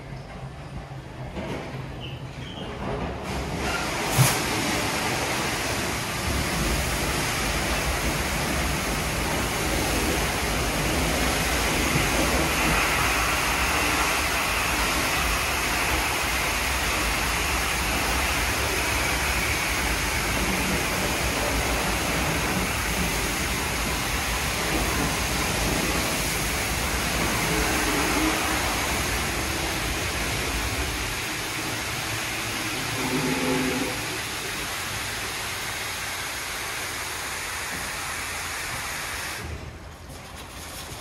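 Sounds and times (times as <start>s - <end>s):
car wash water jets hissing: 3.2s - 41.0s.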